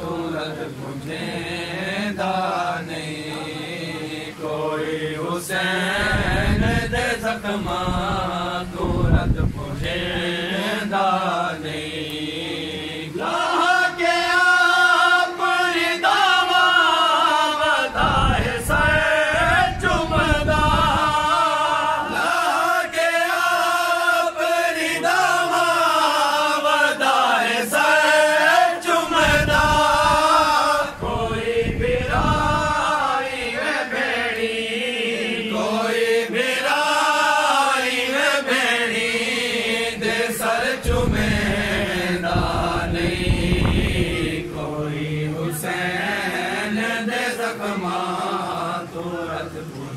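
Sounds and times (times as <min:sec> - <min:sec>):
men chanting a lament: 0:00.0 - 0:49.9.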